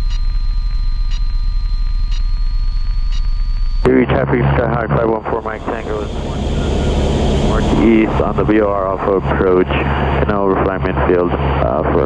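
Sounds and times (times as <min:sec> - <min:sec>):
aircraft engine rumble: 0:00.0 - 0:12.0
electrical whine: 0:00.0 - 0:12.0.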